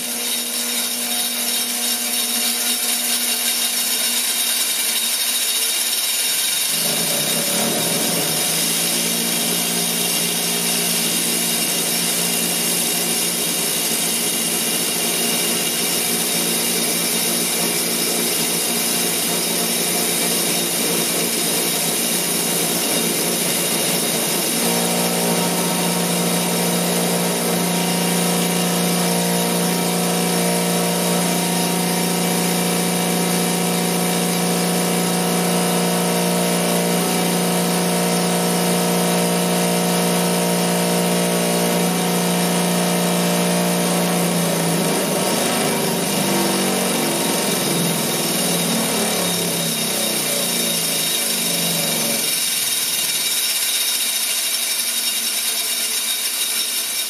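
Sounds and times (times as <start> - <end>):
bench grinder motor hum: 0.0 - 57.0.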